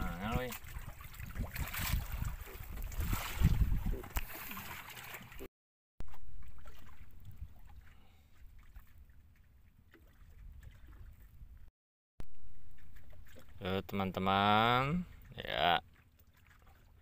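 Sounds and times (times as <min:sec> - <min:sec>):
water sloshing against boat hull: 0:00.0 - 0:11.7, 0:12.5 - 0:17.0.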